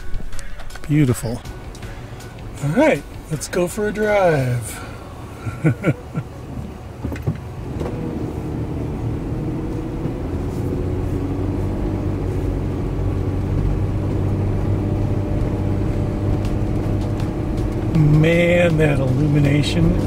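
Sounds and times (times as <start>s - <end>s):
truck engine pulling away: 1.4s - 20.0s.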